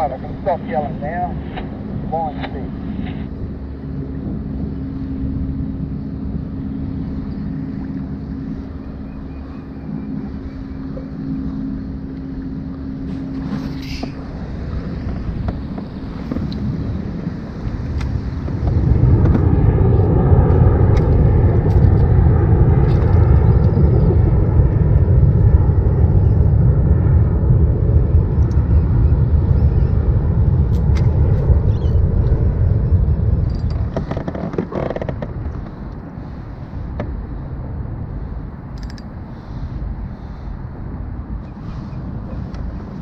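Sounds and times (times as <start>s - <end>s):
low rumble: 0.0s - 43.0s.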